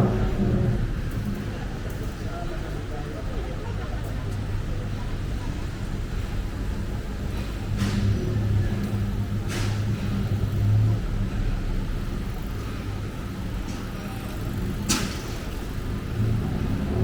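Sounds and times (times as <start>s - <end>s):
vehicle engine humming: 0.0s - 2.8s, 4.4s - 17.0s.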